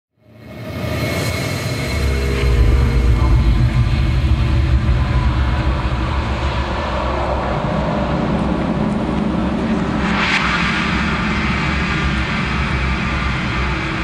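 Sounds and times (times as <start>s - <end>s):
low rumbling drone: 0.3s - 14.0s.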